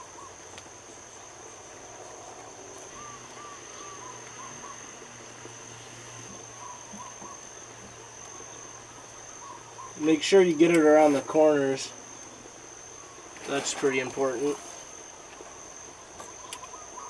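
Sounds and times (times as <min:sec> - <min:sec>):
high-pitched insect drone: 0:01.0 - 0:17.0.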